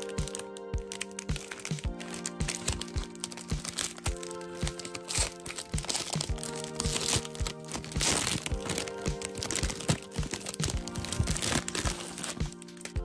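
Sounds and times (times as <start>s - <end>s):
background music with steady beat: 0.0s - 13.0s
plastic candy package crinkling: 0.0s - 13.0s.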